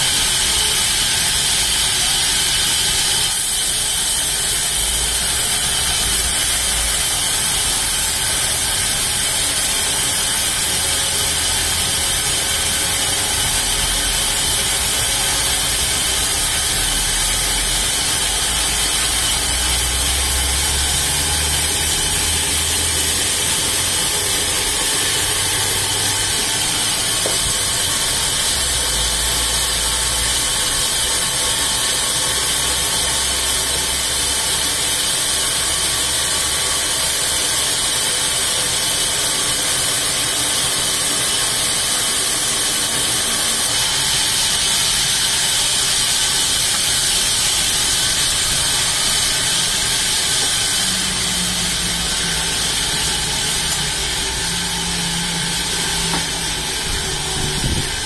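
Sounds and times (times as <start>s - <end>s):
band saw blade cutting log: 0.0s - 58.0s
low hum of saw drive: 0.0s - 58.0s.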